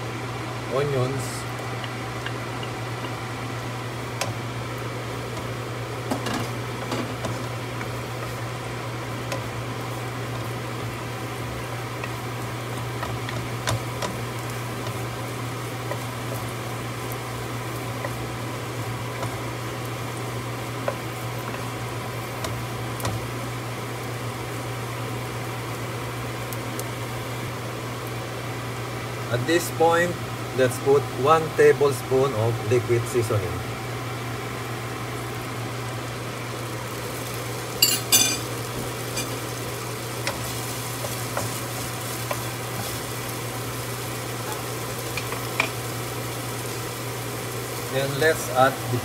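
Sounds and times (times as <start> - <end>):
garlic and onions sizzling in oil: 0.0 - 49.0.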